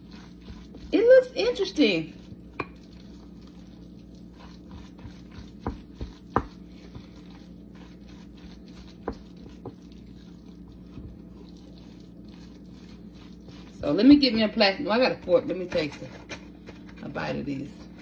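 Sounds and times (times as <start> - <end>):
spoon mashing and stirring: 0.0 - 18.0
steady low hum: 0.0 - 18.0.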